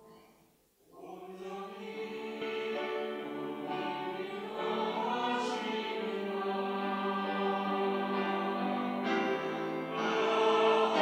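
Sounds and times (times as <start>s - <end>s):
choir singing in harmony: 0.9s - 11.0s.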